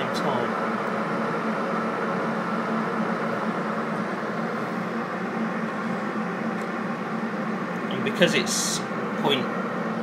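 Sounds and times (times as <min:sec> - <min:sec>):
electric kettle heating water: 0:00.0 - 0:10.0.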